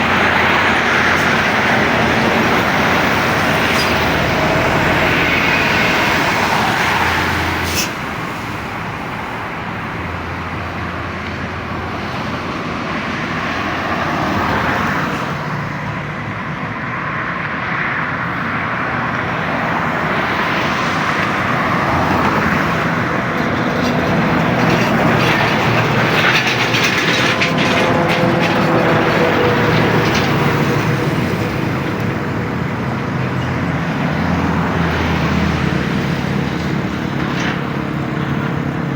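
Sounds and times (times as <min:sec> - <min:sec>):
engines running: 0:00.0 - 0:15.4, 0:18.2 - 0:38.9
buses passing: 0:00.0 - 0:38.9.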